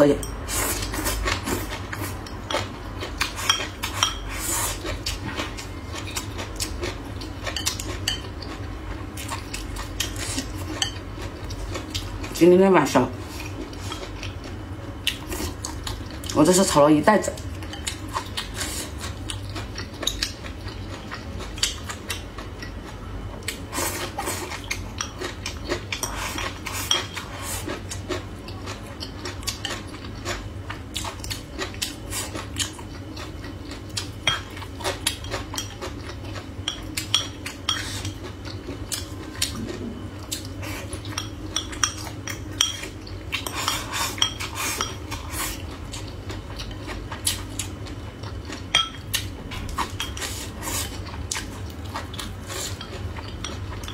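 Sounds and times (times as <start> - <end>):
chewing crisp food: 0.6 - 12.4, 13.3 - 16.4, 17.4 - 53.9.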